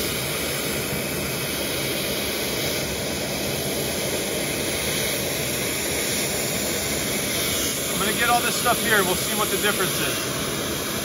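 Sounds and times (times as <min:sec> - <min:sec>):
shop vacuum running: 0:00.0 - 0:11.0.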